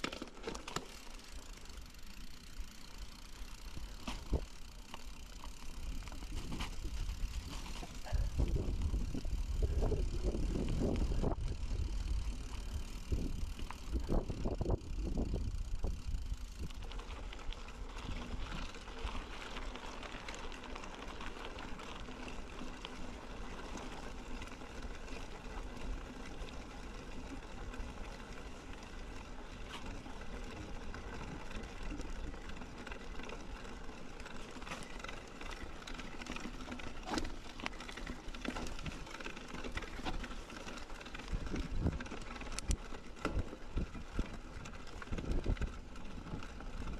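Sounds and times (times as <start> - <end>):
bike tyre and drivetrain noise: 0.0 - 46.9.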